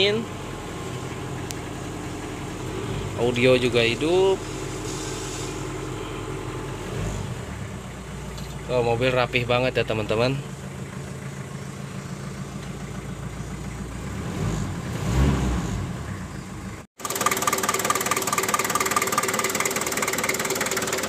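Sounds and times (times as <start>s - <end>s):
diesel engine idling: 0.0s - 14.9s, 15.8s - 21.0s.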